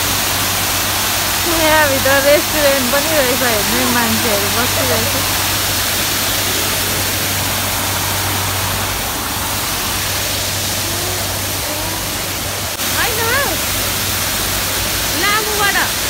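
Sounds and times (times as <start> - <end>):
waterfall splashing onto rocks: 0.0 - 16.0.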